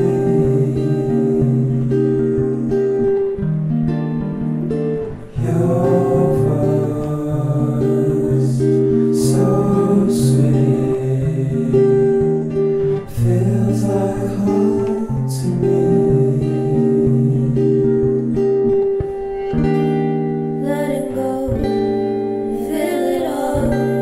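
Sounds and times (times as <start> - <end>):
person singing: 0.0 - 3.4, 5.2 - 19.3, 20.6 - 24.0
acoustic guitar chords: 0.0 - 24.0.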